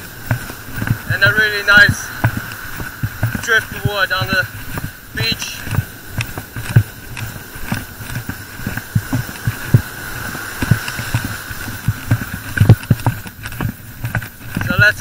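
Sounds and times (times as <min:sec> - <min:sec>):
faint high whine: 0:00.0 - 0:13.5
footsteps on sand: 0:00.0 - 0:15.0
surf washing: 0:00.0 - 0:15.0.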